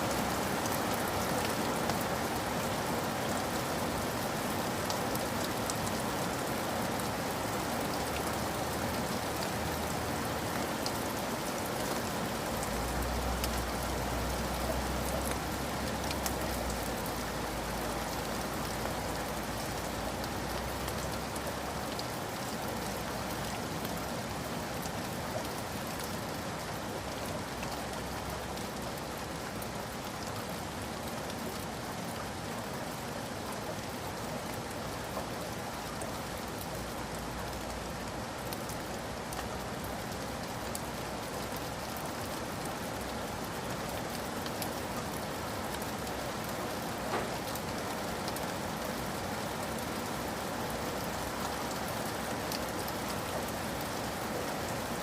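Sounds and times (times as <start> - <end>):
rain striking a surface: 0.0 - 55.0.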